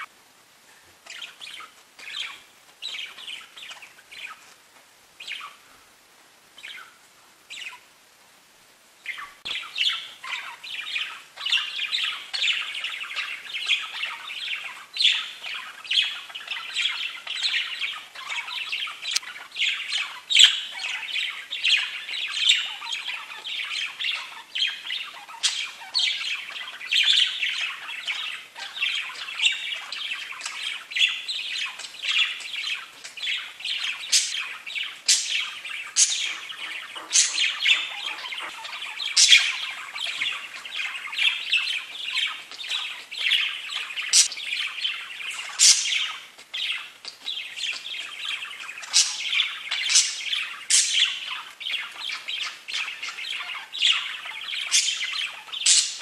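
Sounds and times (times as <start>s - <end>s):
budgerigars chattering and warbling: 1.0s - 4.5s, 5.2s - 5.6s, 6.6s - 6.9s, 7.5s - 7.9s, 9.0s - 56.0s
high-pitched bird chirps and squawks: 9.1s - 56.0s.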